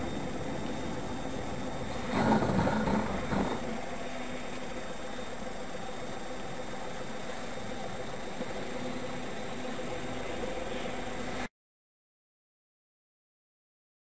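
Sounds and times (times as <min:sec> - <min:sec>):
faint steady tones: 0:00.0 - 0:11.5.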